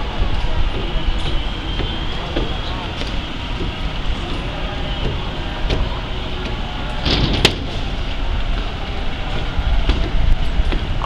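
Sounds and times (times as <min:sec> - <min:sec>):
train rumbling on track: 0:00.0 - 0:11.0
train wheels clacking: 0:00.0 - 0:11.0.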